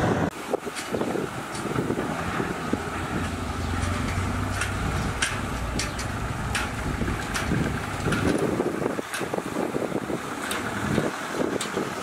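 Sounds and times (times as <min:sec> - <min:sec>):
bulldozer diesel engine under load: 0:00.0 - 0:12.0.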